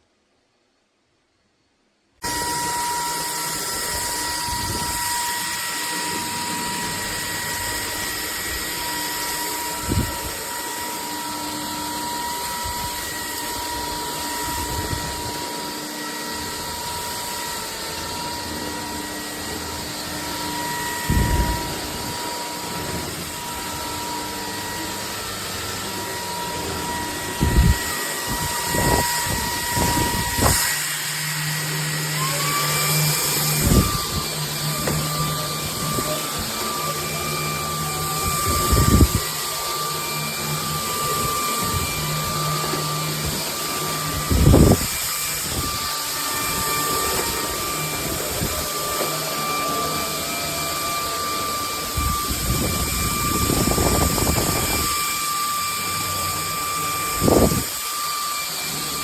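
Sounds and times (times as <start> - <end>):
stick vacuum running: 2.2 - 59.0.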